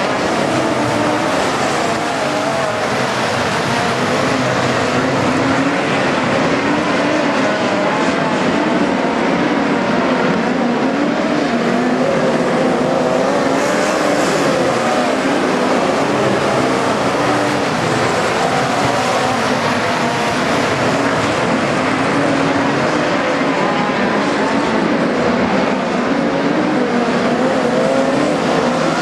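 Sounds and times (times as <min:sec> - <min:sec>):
race car engines running: 0:00.0 - 0:29.0.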